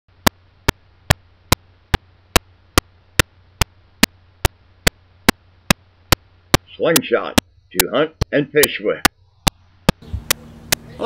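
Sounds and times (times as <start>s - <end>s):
sharp evenly spaced ticks: 0.1s - 10.9s
steady low hum: 0.1s - 11.0s.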